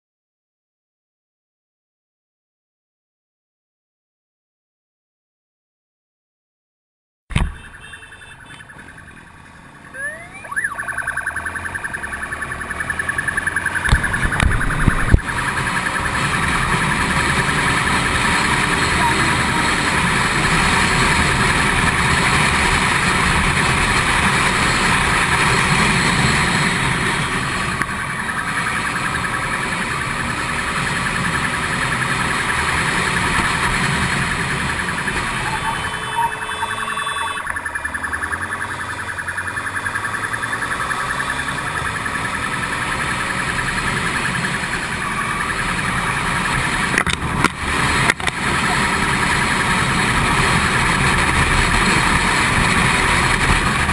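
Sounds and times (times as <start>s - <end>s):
police siren: 7.3s - 53.9s
vehicle noise: 7.3s - 53.9s.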